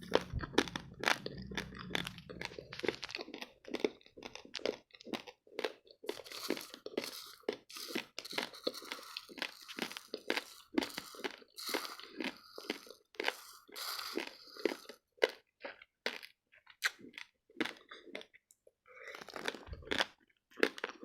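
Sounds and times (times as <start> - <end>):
chewing crunchy rice grains: 0.0 - 21.0.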